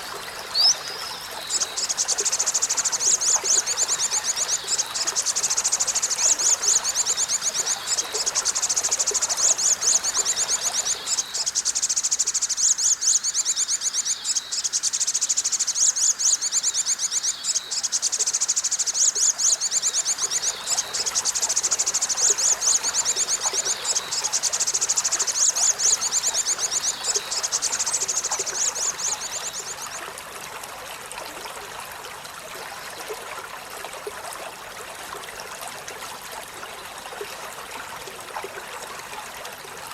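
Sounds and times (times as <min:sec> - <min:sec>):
faint trickle of running water: 0:00.0 - 0:39.9.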